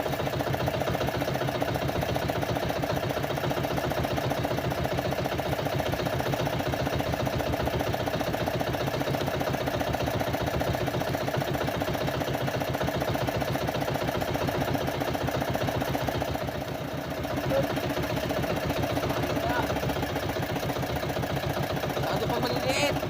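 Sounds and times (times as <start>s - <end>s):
boat engine putter: 0.0s - 23.0s.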